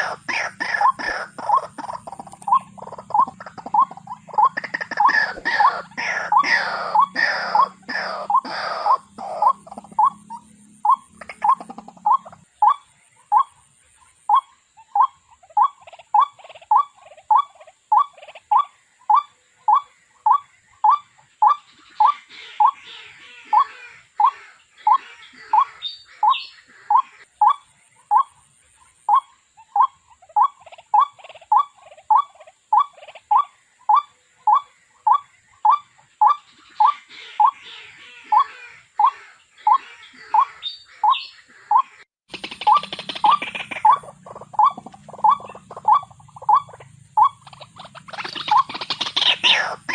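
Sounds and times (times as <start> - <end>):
waterhen harsh calls: 0.0 - 13.5, 19.7 - 28.3, 29.1 - 49.9.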